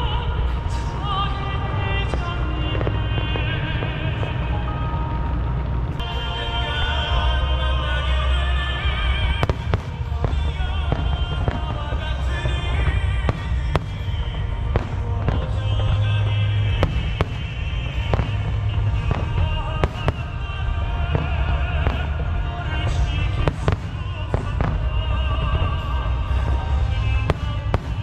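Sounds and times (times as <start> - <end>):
deep continuous rumble: 0.0 - 28.0
fireworks bangs: 0.0 - 28.0
music playing: 0.0 - 28.0.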